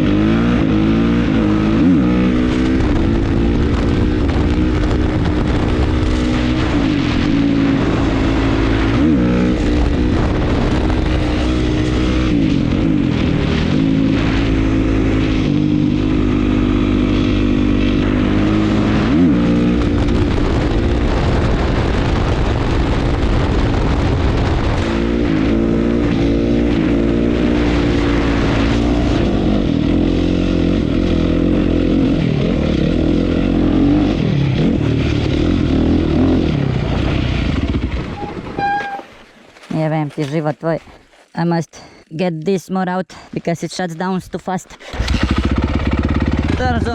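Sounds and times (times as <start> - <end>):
dirt bike engine revving: 0.0 - 22.4, 23.7 - 39.2, 44.8 - 46.9.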